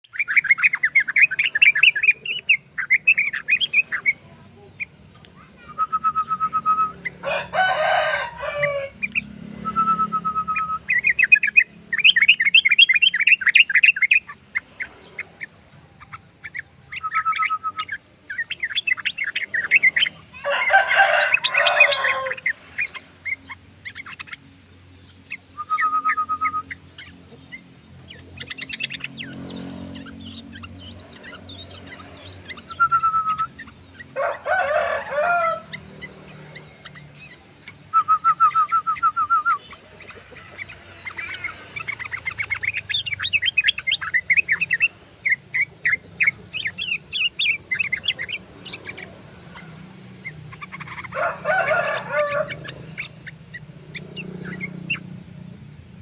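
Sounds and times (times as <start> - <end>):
coarse bird call: 0.0 - 24.5, 25.1 - 55.2
bird singing chirping runs: 0.0 - 56.0.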